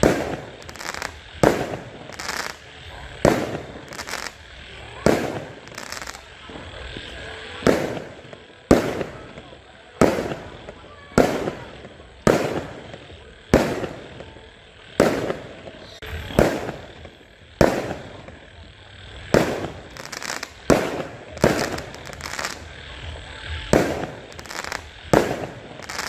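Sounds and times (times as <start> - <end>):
fireworks bangs: 0.0 - 26.0
small crackling firework pops: 0.0 - 26.0.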